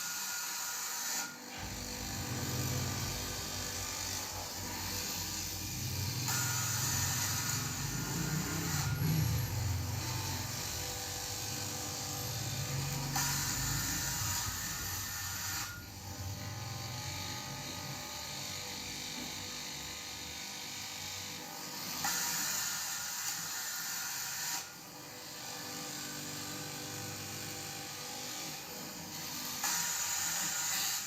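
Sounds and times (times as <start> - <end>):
fabric cutting machine whir: 0.0 - 31.0.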